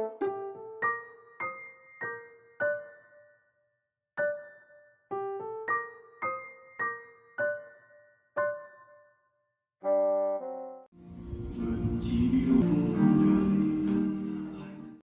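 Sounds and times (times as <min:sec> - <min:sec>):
slow piano melody: 0:00.0 - 0:03.6, 0:04.2 - 0:15.0.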